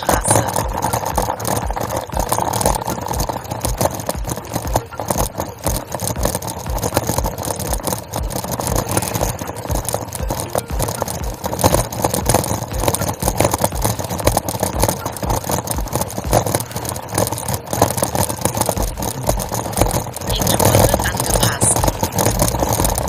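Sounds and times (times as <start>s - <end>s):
bicycle rattling over cobblestones: 0.0s - 23.0s.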